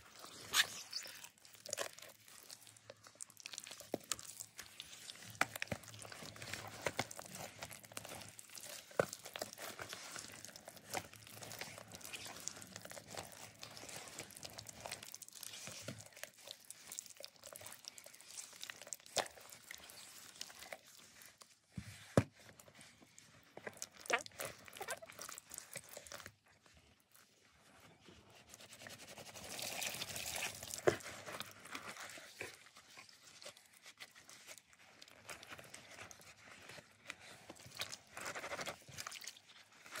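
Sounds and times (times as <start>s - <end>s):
wet paste crackling in a bowl: 0.0s - 40.0s.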